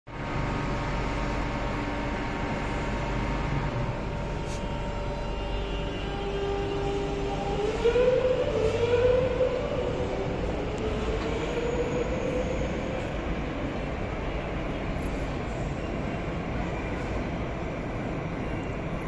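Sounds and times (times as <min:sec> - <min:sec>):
train running noise: 0:00.1 - 0:19.0
train traction motor whine: 0:00.1 - 0:19.0.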